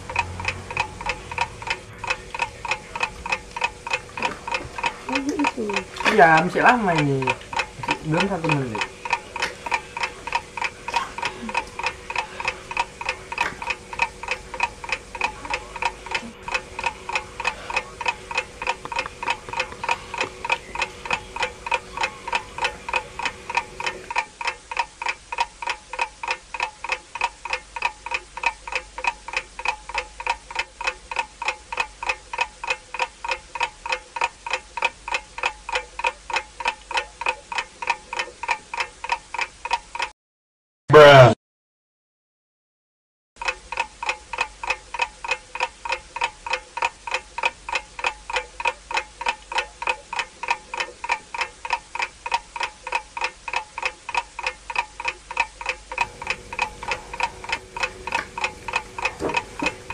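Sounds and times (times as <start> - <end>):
clock ticking: 0.0 - 40.1, 43.4 - 59.9.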